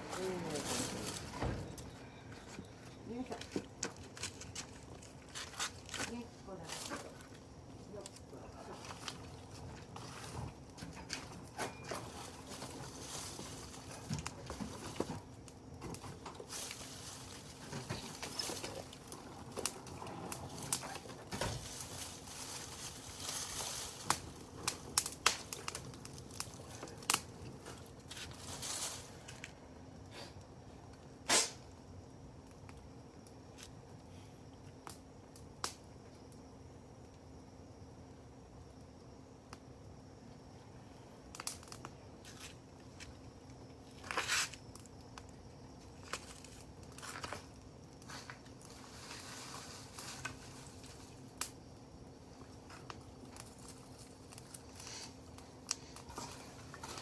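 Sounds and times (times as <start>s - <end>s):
wood fire crackling and popping: 0.0s - 40.5s, 41.1s - 57.0s.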